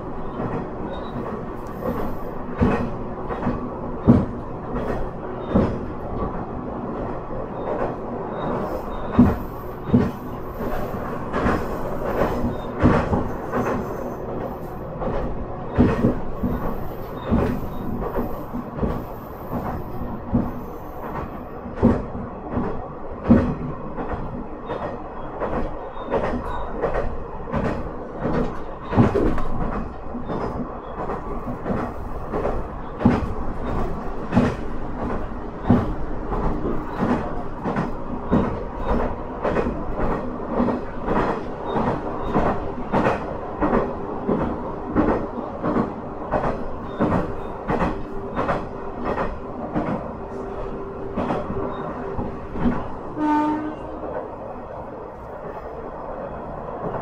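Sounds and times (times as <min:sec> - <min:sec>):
wheels clacking over rail joints: 0:00.0 - 0:55.8
diesel railcar engine droning: 0:00.0 - 0:57.0.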